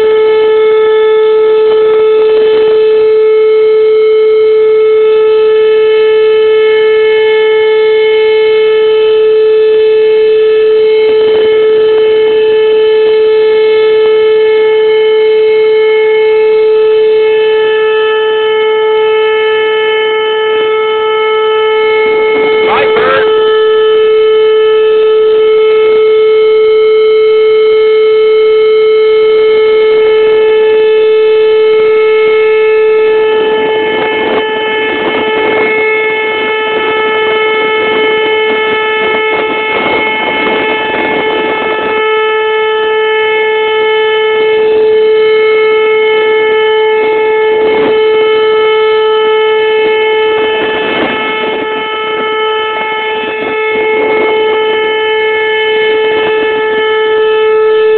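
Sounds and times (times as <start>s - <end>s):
electronic warning siren steady tone: 0.0s - 57.9s.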